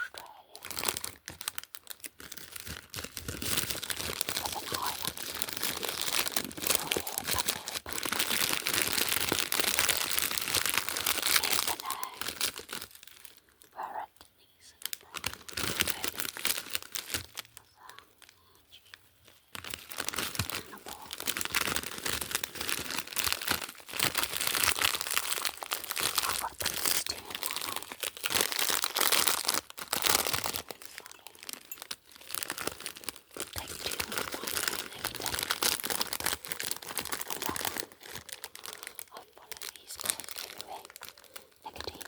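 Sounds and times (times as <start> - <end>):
packaging crinkling and tearing: 0.0 - 42.0.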